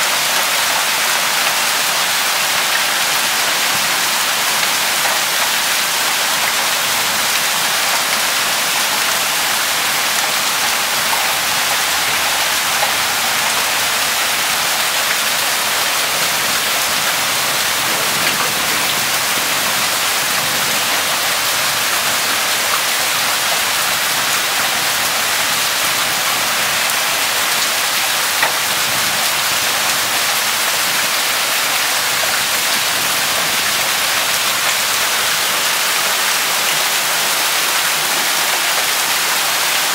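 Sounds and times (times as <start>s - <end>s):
hail and rain pelting down: 0.0s - 39.9s.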